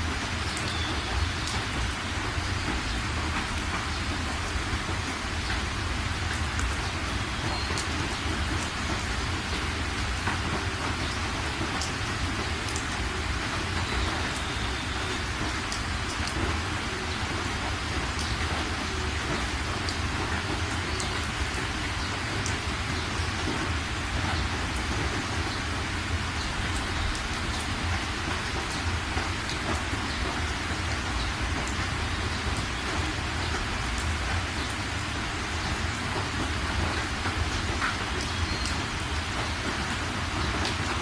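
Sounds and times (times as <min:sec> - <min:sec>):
raindrops ticking: 0:00.0 - 0:41.0
steady rain falling: 0:00.0 - 0:41.0.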